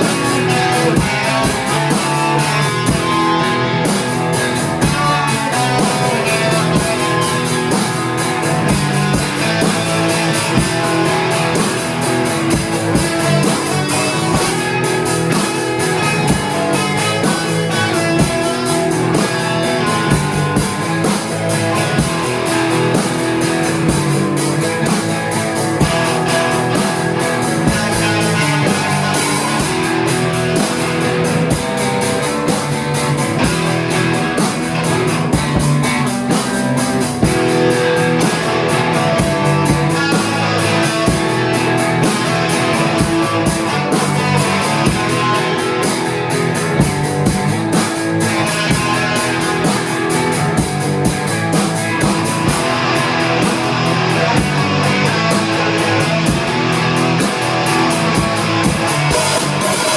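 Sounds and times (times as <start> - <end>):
drum kit beat: 0.0 - 59.9
guitar strumming: 0.0 - 59.9.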